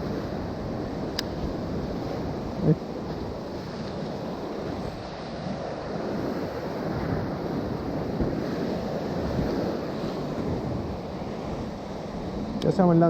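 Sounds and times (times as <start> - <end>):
ocean surf washing on shore: 0.0 - 13.0
wind buffeting microphone: 0.0 - 13.0.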